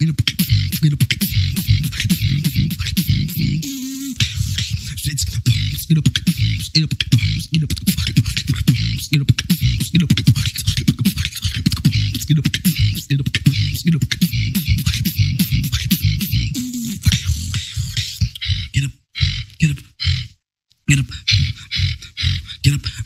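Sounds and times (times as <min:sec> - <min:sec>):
human beatboxing: 0:00.0 - 0:23.0.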